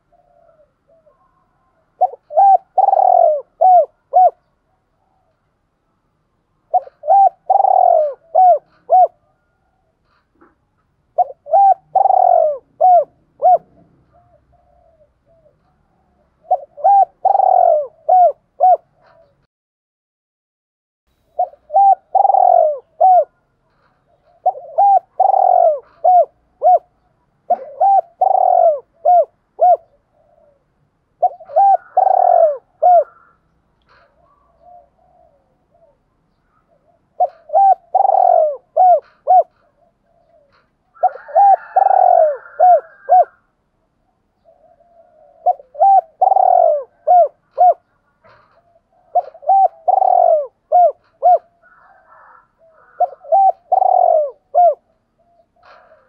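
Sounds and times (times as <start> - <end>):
dove cooing: 0.0 - 5.3, 6.6 - 19.5, 21.3 - 43.6, 44.4 - 56.0.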